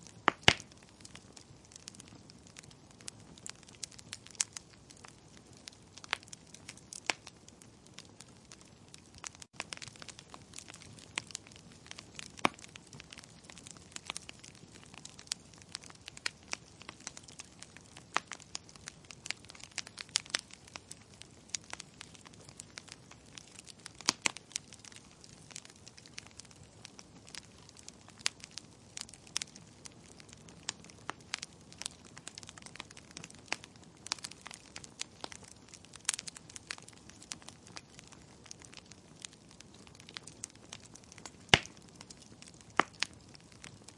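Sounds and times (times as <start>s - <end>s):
logs crackling and popping: 0.0s - 43.9s
soft hiss of flames: 0.0s - 43.9s.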